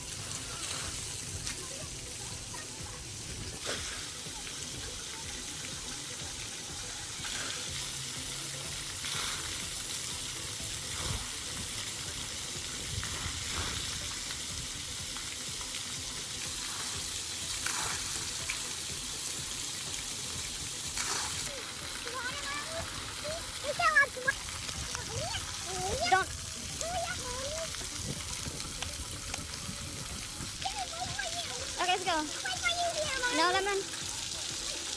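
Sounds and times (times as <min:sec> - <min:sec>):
water jets spraying: 0:00.0 - 0:34.9.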